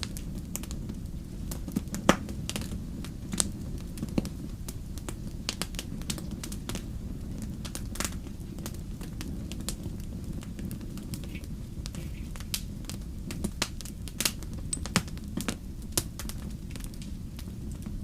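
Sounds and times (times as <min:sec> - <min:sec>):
campfire crackling: 0:00.0 - 0:18.0
fire pops and snaps: 0:00.0 - 0:18.0
steady low rumble: 0:00.0 - 0:18.0.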